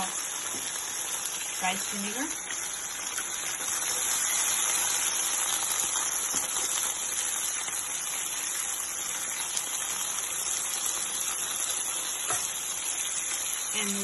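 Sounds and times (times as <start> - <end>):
garlic frying in hot oil: 0.0 - 14.0.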